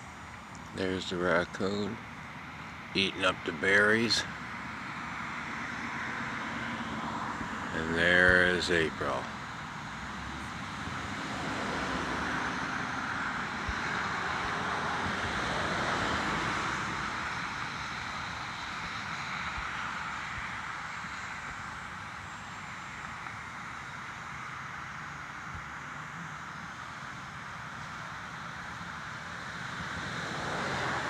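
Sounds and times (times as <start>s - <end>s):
distant road traffic: 0.0s - 31.0s.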